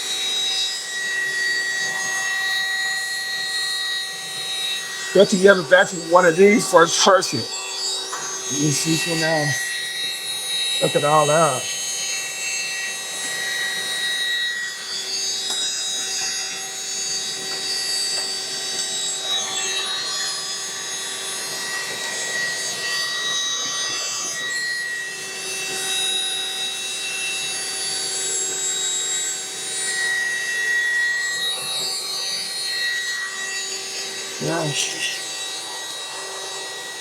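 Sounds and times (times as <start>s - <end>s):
handheld vacuum whining: 0.0s - 37.0s.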